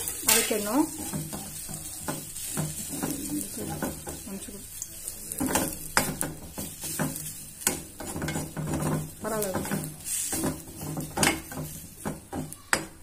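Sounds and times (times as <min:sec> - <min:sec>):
metal spatula scraping a pan: 0:00.0 - 0:13.0
spices sizzling in oil: 0:00.0 - 0:13.0.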